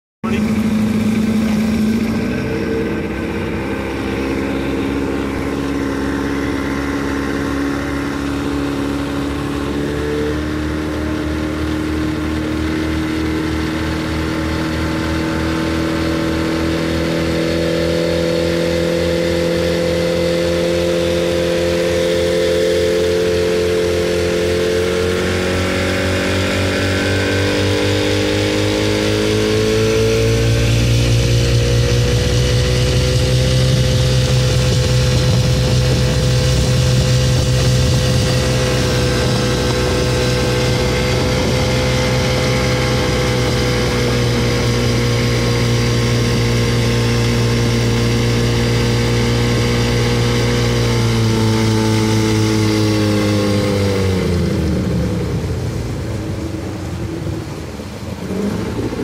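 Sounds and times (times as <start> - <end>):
outboard motor running: 0.2 - 59.0
rush of boat wake: 0.2 - 59.0.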